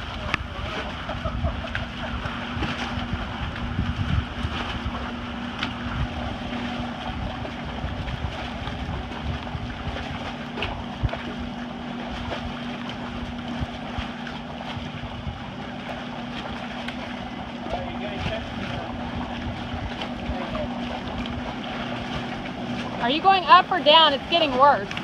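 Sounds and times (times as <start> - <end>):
wind on microphone: 0.0 - 23.2
low hum: 0.0 - 25.0
water lapping against boat: 0.0 - 25.0.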